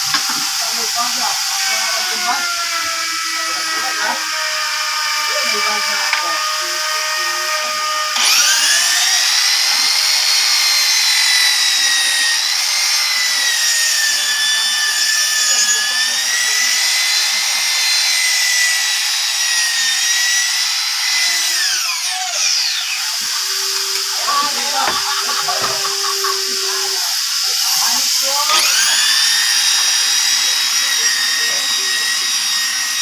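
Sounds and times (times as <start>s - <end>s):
electric power sander whining: 0.0s - 33.0s.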